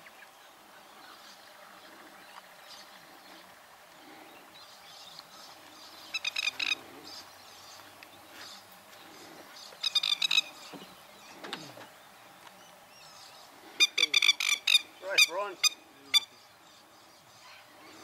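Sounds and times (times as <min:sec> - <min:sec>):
bird calling: 0:00.0 - 0:18.0
faint background hiss: 0:00.0 - 0:18.0.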